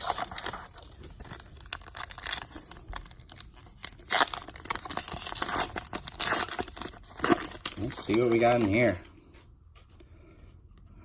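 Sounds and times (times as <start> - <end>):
wrapper crinkling and tearing: 0.0 - 9.1.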